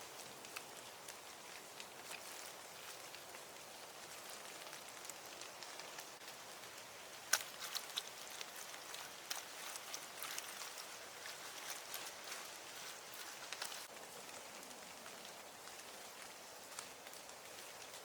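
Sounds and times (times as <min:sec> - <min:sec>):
rain falling: 0:00.0 - 0:18.0
raindrops ticking on surfaces: 0:00.0 - 0:18.0.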